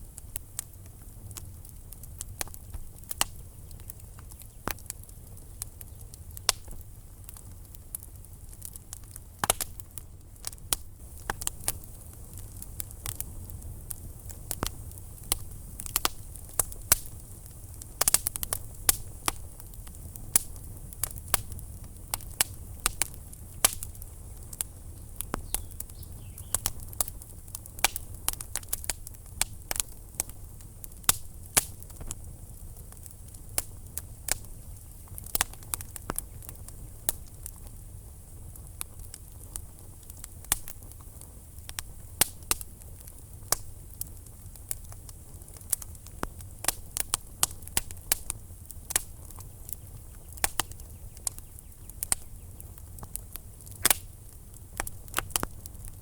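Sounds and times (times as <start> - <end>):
low rumble of flames: 0.0 - 56.0
wood fire crackling: 0.0 - 56.0
sharp pops of fire: 0.1 - 56.0.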